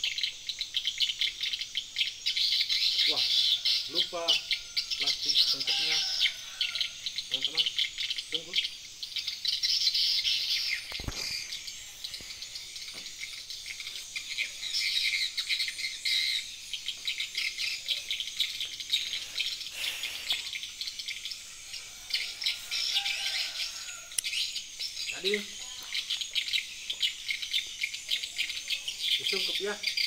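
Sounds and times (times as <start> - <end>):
birds chirping: 0.0 - 30.0
insects chorus: 0.0 - 30.0.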